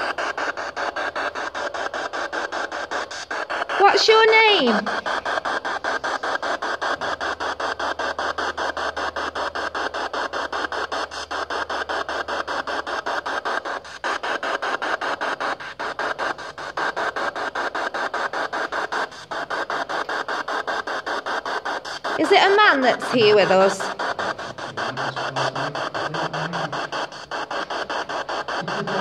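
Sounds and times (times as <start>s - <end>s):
pulsing radio static: 0.0s - 29.0s.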